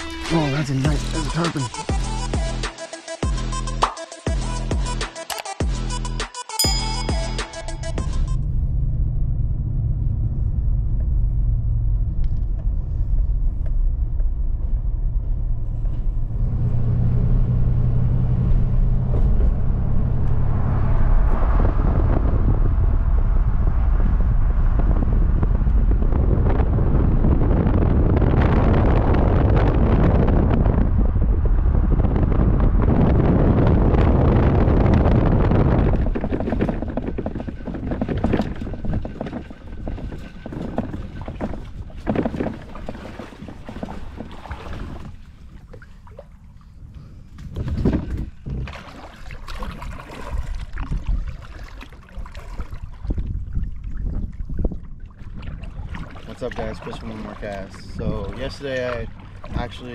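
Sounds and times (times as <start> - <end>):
low rumble: 6.7 - 59.9.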